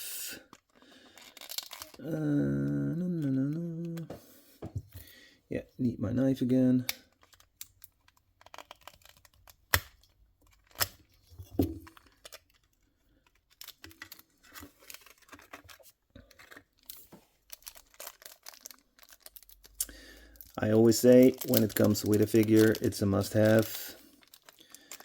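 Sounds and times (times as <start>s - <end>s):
plastic and card crinkling: 0.5s - 4.2s, 6.8s - 25.0s.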